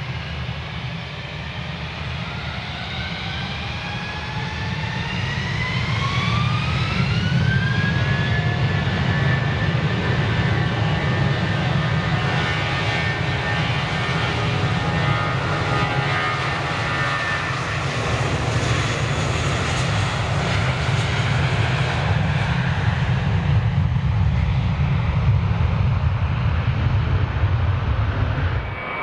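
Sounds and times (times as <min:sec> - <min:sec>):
high engine whine: 0:00.0 - 0:29.0
jet engines roaring: 0:00.0 - 0:29.0.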